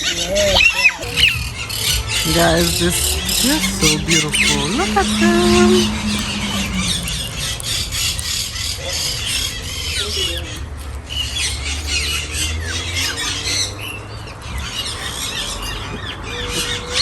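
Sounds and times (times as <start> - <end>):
birds squawking and chirping: 0.0 - 17.0.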